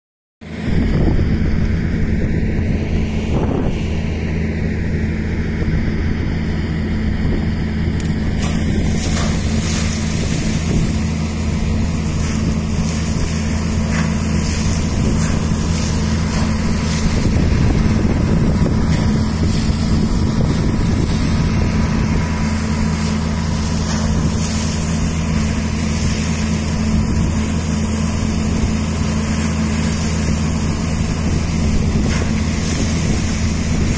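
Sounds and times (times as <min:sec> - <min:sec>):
engine droning: 0:00.4 - 0:33.9.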